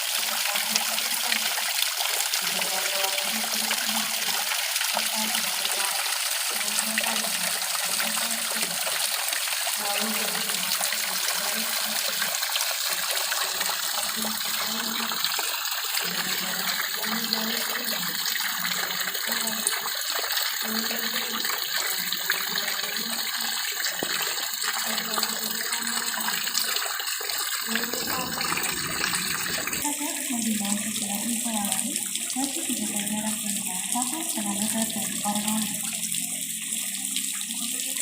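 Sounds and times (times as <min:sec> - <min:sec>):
low water gurgle: 0:00.0 - 0:38.0
water flowing and splashing: 0:00.0 - 0:38.0.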